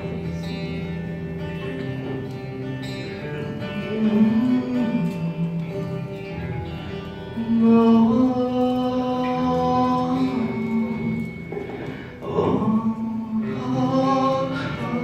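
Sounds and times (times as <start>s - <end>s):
guitar playing long held notes: 0.0s - 15.0s.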